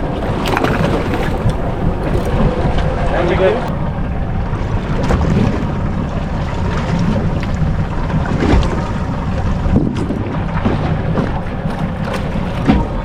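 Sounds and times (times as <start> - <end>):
water lapping at hull: 0.0 - 13.0
wind buffeting microphone: 0.0 - 13.0.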